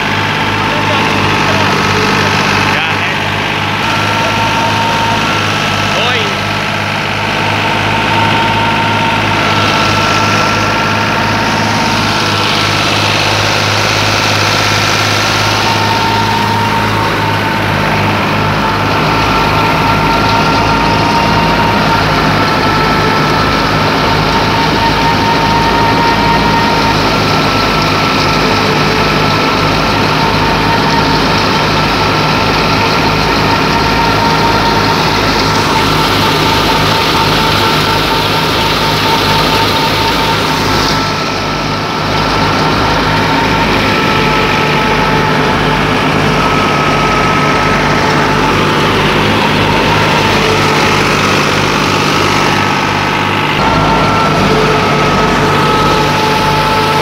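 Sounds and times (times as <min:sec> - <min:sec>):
steady whine: 0:00.0 - 0:57.0
thresher whirring: 0:00.0 - 0:57.0
tractor diesel engine running: 0:00.0 - 0:57.0.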